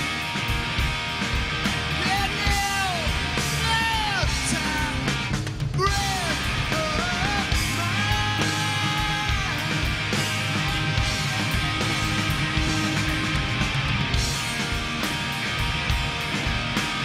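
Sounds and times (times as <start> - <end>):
electric guitar: 0.0 - 17.0
live rock band playing: 0.0 - 17.0.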